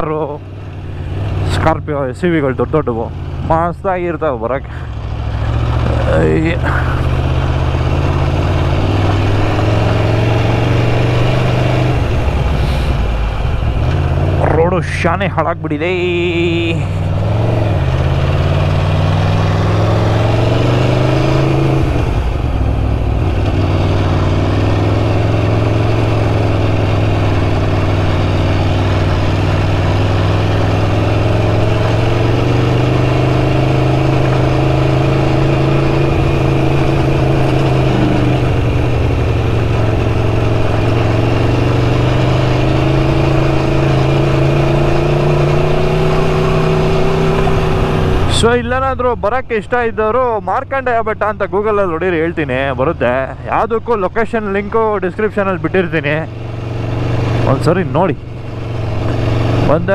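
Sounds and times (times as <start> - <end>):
car engine pulling uphill: 0.0 - 59.9.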